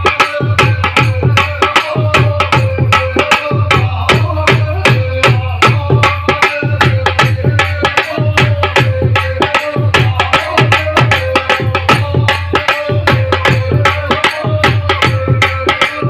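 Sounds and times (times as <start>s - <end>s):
hand drum rhythm: 0.0s - 16.0s.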